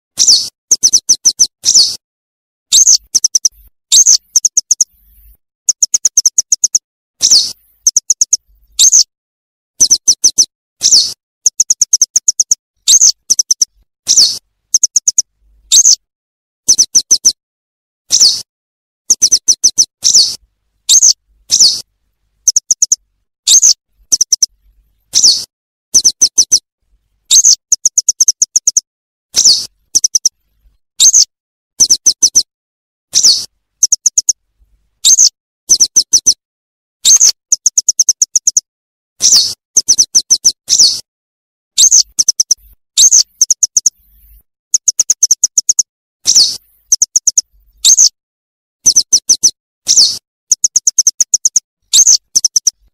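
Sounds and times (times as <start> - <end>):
recorded bird calls: 0.2 - 2.0, 2.7 - 9.1, 9.8 - 17.4, 18.0 - 32.5, 33.1 - 34.4, 35.0 - 36.4, 37.0 - 38.6, 39.2 - 41.1, 41.7 - 48.2, 48.8 - 52.9.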